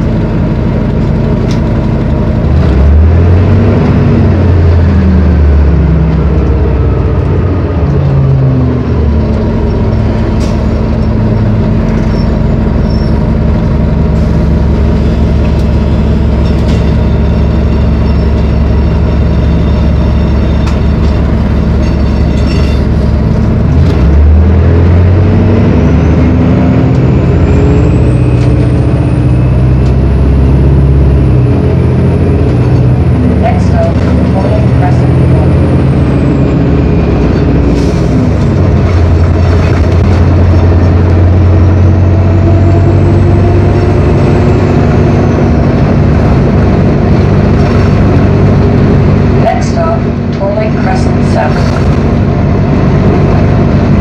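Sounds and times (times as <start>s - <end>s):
bus diesel engine: 0.0s - 54.0s
high whine: 7.2s - 54.0s.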